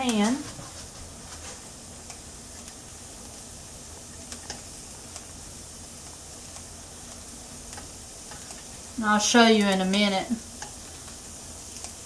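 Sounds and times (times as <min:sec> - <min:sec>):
onion sizzling in a pan: 0:00.0 - 0:12.0.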